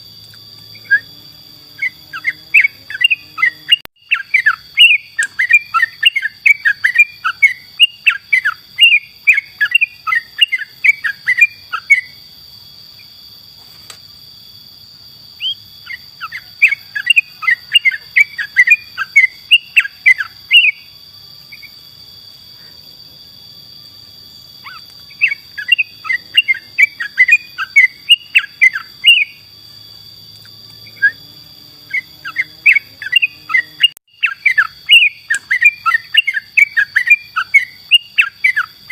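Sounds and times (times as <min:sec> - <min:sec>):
bird chirping song: 0:00.0 - 0:13.2, 0:15.3 - 0:38.9.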